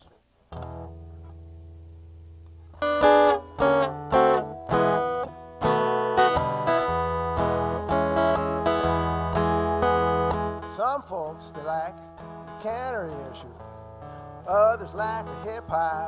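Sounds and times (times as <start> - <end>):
acoustic guitar strumming: 0.5 - 16.0.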